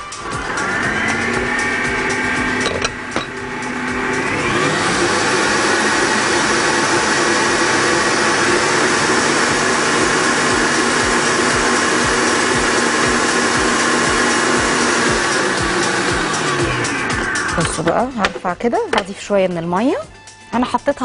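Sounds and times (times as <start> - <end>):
stand mixer motor whine: 0.0 - 17.9.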